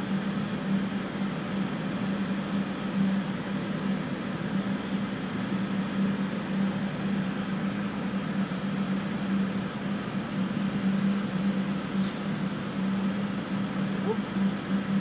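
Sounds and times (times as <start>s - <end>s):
electric fans running: 0.0s - 15.0s.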